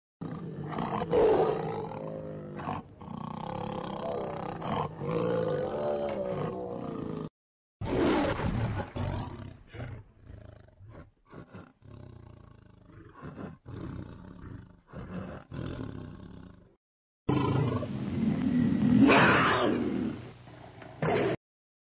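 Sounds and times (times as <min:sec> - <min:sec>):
tiger growling and roaring: 0:00.2 - 0:16.7, 0:17.3 - 0:20.2.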